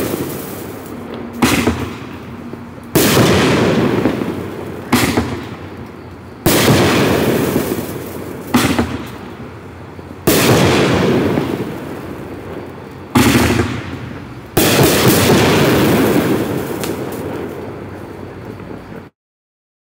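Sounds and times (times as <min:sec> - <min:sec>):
firework bangs: 0:00.0 - 0:19.1.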